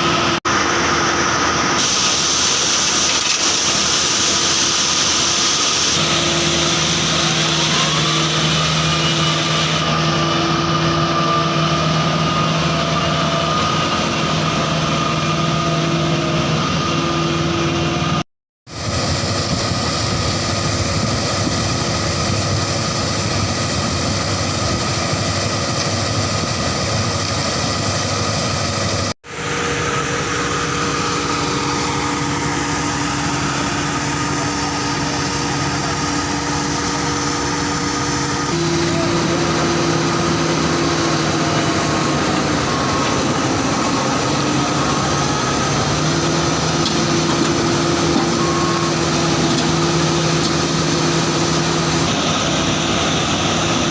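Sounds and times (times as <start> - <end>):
heavy machinery diesel engines: 0.0 - 53.9.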